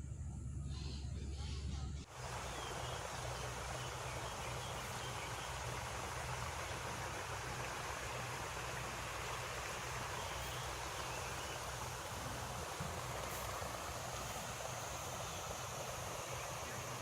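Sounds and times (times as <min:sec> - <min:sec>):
low steady hum: 0:00.0 - 0:17.0
rushing outdoor ambience: 0:02.0 - 0:17.0.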